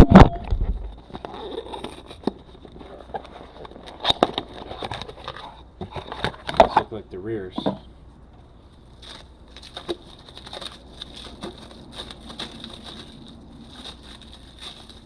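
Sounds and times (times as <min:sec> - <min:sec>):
packaging rustling: 0:00.6 - 0:06.6, 0:08.8 - 0:15.0.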